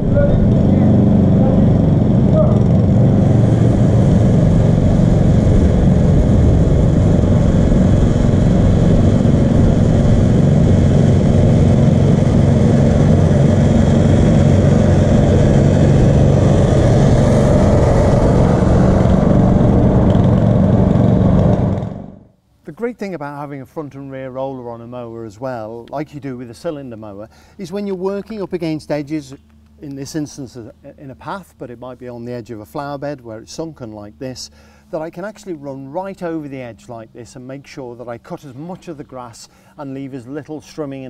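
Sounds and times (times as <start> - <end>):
lawn mower engines droning: 0.0 - 22.2, 23.4 - 41.0.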